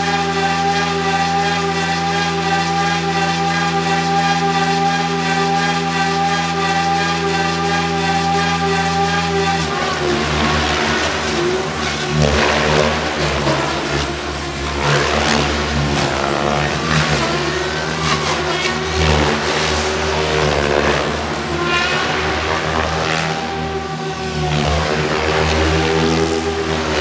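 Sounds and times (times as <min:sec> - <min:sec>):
rc helicopter rotor and motor: 0:00.0 - 0:27.0.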